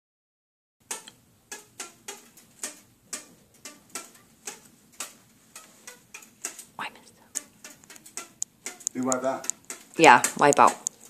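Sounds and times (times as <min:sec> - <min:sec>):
sharp taps on fishing rod: 0:00.8 - 0:11.0.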